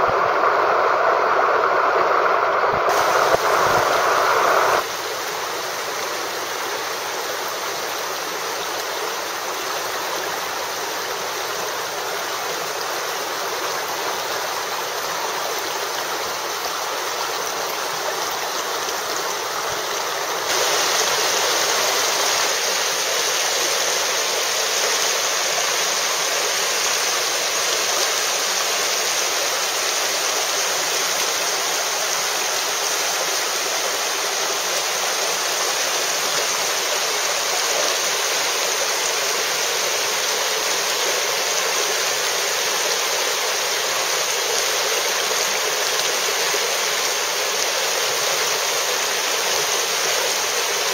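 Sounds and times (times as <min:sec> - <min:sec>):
stream running over rocks: 0:00.0 - 0:50.9.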